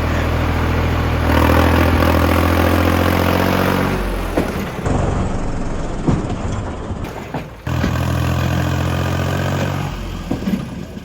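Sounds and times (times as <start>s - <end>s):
diesel tractor engines running: 0.0s - 11.0s.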